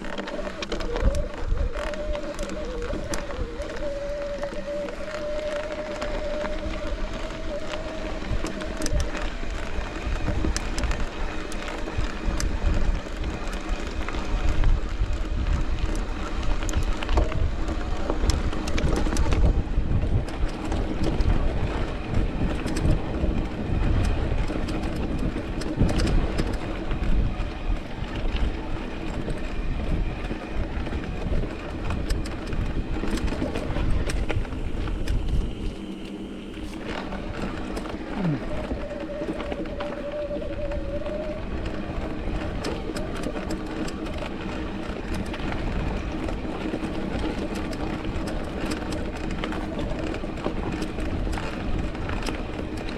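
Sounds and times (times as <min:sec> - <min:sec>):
bike rattling and knocking on rocks: 0:00.0 - 0:52.9
wind rumble on microphone: 0:00.0 - 0:52.9.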